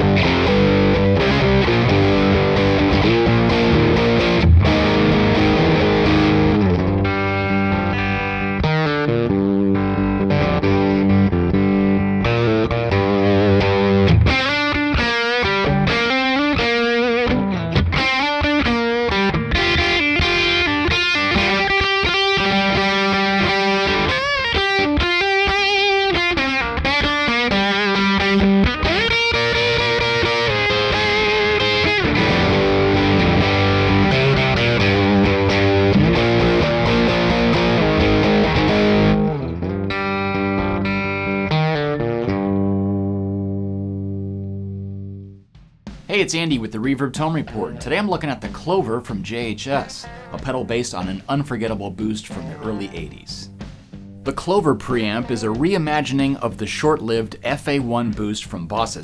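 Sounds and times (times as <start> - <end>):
electric guitar: 0.0 - 46.0, 49.6 - 51.2, 52.3 - 54.3.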